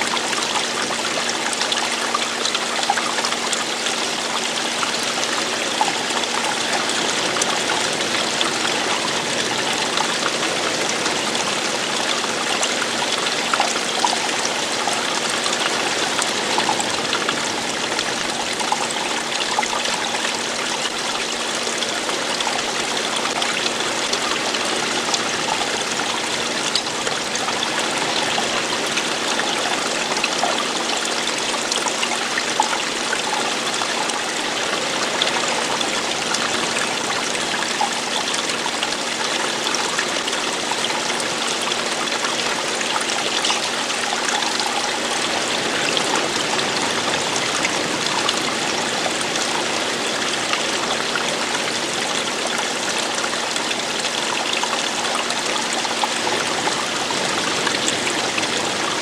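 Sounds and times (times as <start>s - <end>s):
running water: 0.0s - 59.0s
water splashing and trickling: 0.0s - 59.0s.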